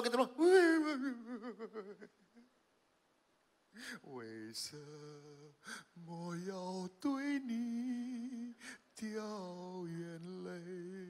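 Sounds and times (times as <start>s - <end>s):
man singing unaccompanied: 0.0s - 2.1s, 3.9s - 11.0s.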